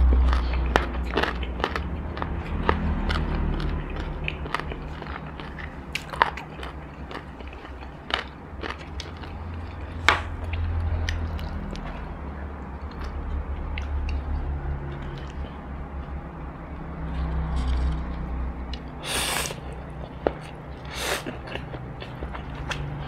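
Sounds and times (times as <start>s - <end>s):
chewing crunchy fried chicken: 0.0s - 16.2s, 16.8s - 23.0s
low steady hum: 0.0s - 23.0s.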